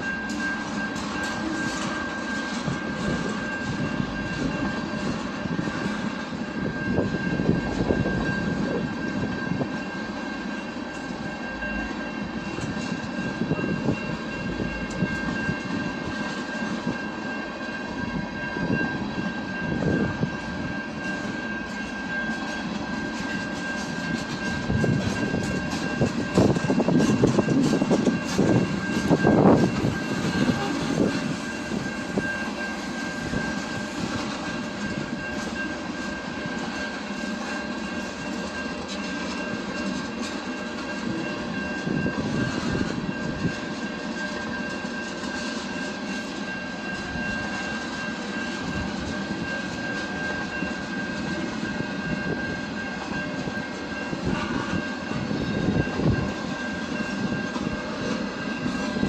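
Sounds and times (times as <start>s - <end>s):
train rolling rumble: 0.0s - 59.0s.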